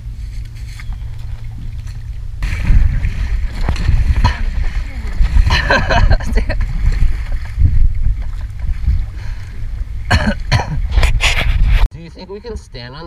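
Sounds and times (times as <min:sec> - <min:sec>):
kayak paddle splashing: 0:00.0 - 0:11.8
wind on microphone: 0:00.0 - 0:11.9.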